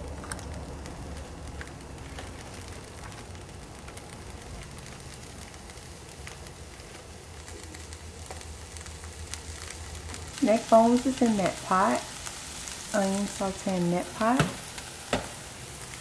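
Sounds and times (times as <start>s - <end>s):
onion sizzling in a skillet: 0.0s - 16.0s.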